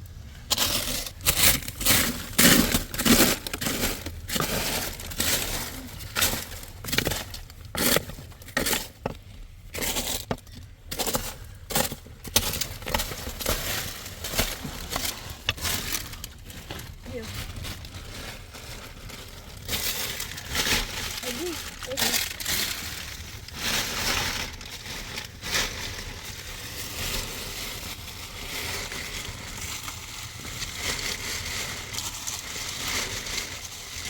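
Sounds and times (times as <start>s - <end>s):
crunching and crackling: 0.0s - 34.0s.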